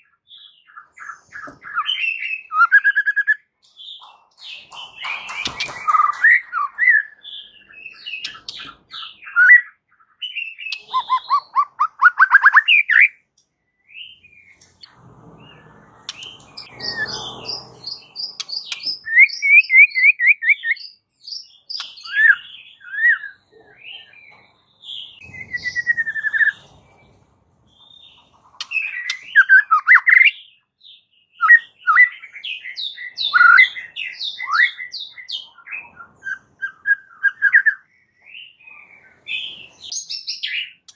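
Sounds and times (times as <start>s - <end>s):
songbird singing whistles and trills: 0.0s - 14.7s, 16.1s - 27.2s, 27.8s - 40.9s.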